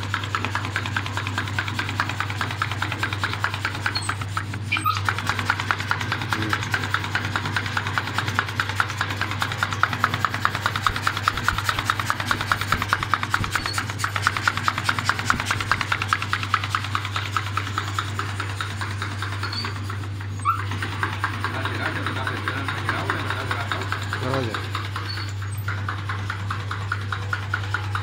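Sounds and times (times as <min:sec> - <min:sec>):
fast rasping tick: 0:00.0 - 0:28.0.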